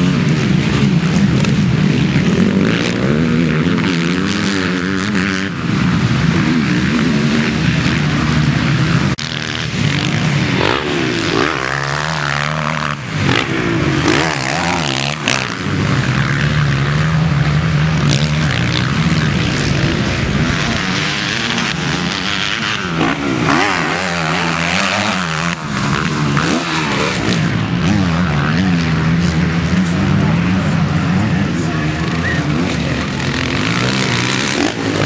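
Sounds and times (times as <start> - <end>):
motocross bike engines racing: 0.0 - 35.0.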